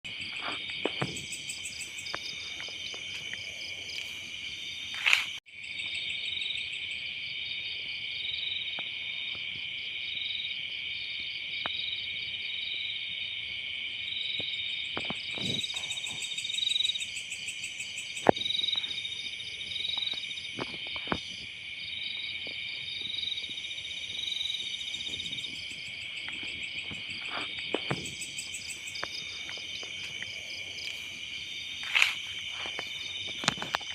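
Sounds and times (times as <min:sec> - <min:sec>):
insect chorus trilling: 0:00.1 - 0:33.9.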